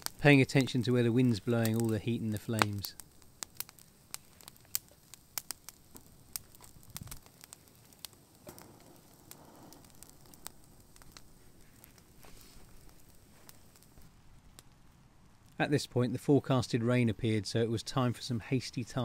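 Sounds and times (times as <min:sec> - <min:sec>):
twig fire crackling and popping: 0:00.0 - 0:19.0.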